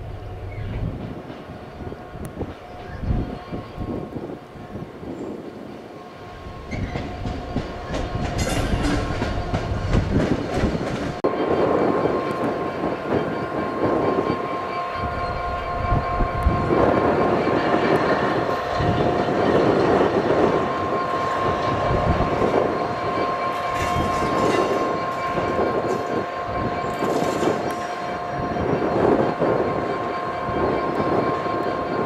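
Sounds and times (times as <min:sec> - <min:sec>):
diesel locomotive engines running: 0:00.0 - 0:32.0.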